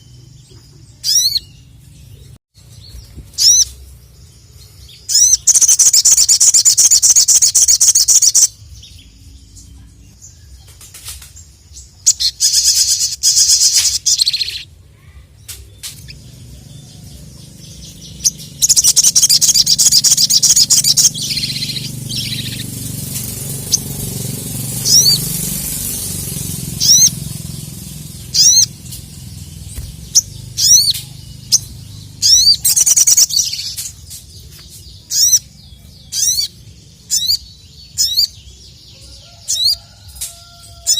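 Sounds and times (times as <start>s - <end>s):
bird high-pitched trilling: 1.0s - 1.6s, 2.9s - 3.9s, 4.8s - 9.2s, 12.0s - 14.7s, 15.8s - 38.5s, 39.2s - 40.9s.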